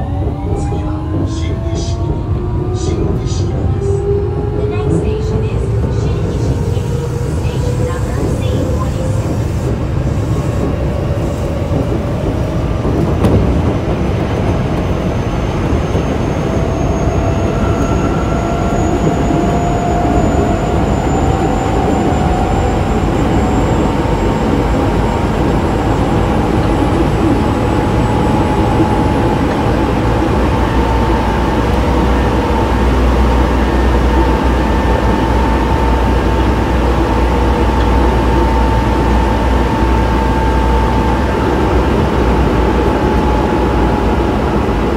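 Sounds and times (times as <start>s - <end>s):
wheels rumbling on track: 0.0s - 44.9s.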